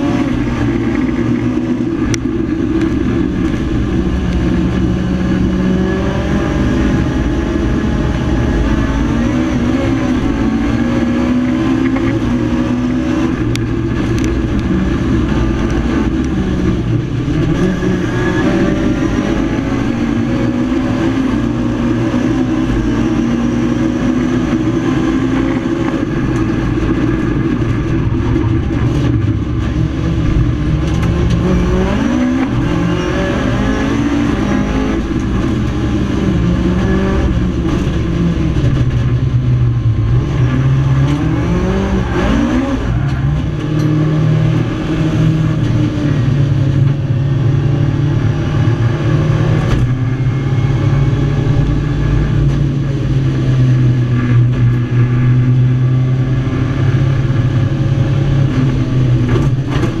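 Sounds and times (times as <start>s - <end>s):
race car engine revving: 0.0s - 60.0s.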